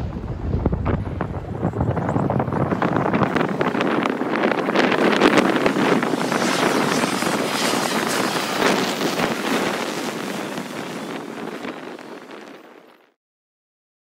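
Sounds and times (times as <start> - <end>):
jet airliner passing overhead: 0.0 - 13.0
wind buffeting microphone: 0.0 - 13.1.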